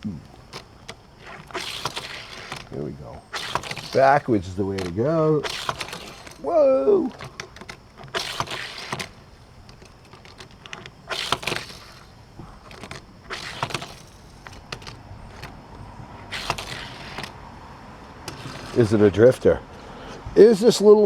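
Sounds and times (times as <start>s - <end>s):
toy car handling clicks: 0.2s - 19.0s
toy car wheels rolling: 0.3s - 19.6s.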